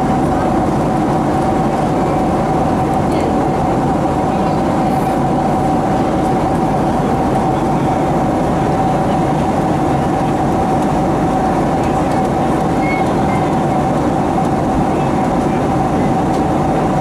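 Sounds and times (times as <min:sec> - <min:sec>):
airplane cabin engine and airflow rush: 0:00.0 - 0:17.0
constant mid-pitched hum: 0:00.0 - 0:17.0.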